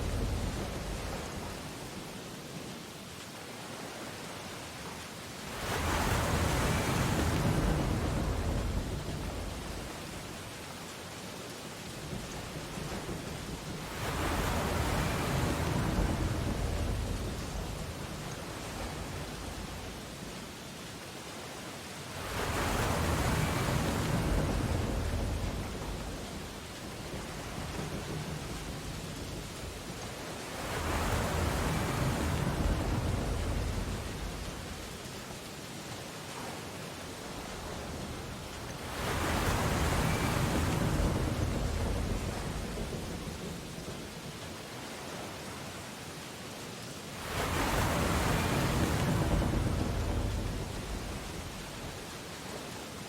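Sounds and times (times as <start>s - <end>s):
ocean surf washing on a beach: 0.0s - 53.0s.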